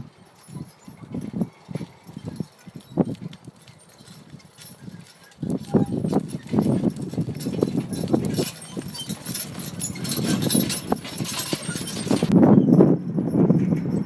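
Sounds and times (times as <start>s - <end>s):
hooves thudding on dirt: 0.1s - 12.4s.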